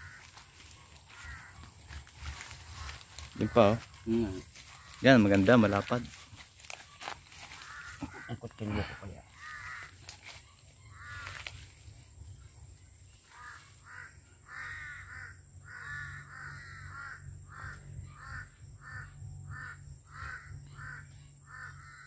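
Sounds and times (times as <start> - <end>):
bird calling: 0.0 - 11.7, 13.1 - 22.0.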